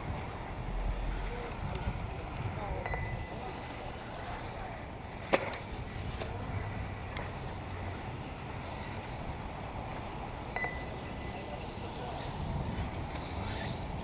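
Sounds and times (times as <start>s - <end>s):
wind rumbling on microphone: 0.0s - 10.4s, 11.7s - 14.0s
radio-controlled cars whining: 0.1s - 14.0s.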